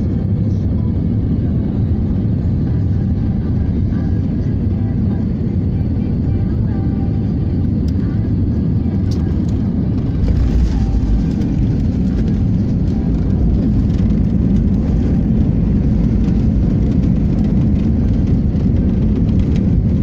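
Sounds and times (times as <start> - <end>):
airliner landing rumble: 0.0 - 20.0.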